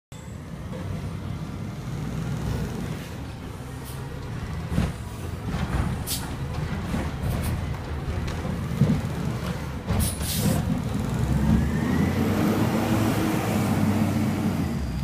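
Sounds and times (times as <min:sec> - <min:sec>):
garbage truck engine rumble: 0:00.2 - 0:15.0.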